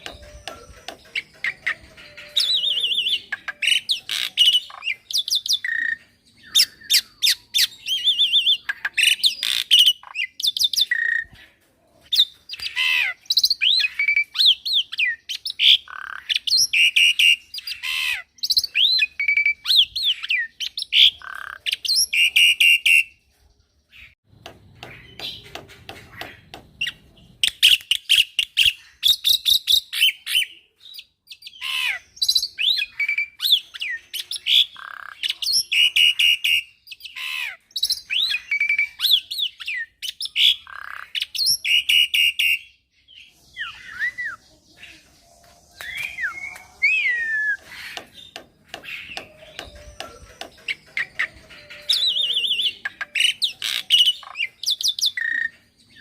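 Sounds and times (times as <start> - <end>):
bird chattering and whistling: 0.0 - 11.4, 12.1 - 23.2, 24.0 - 56.0.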